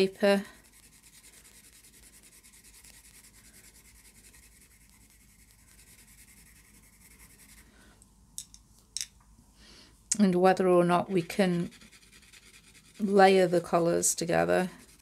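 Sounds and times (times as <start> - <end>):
pencil scratching on paper: 0.0 - 7.7, 10.5 - 15.0.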